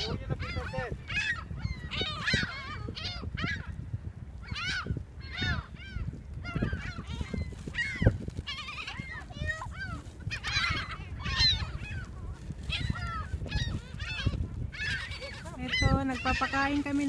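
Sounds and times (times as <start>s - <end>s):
seagulls calling: 0.0s - 17.0s.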